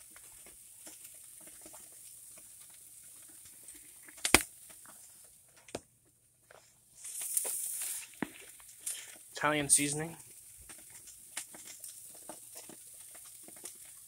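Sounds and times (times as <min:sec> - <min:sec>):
patties faintly sizzling: 0:00.0 - 0:14.0.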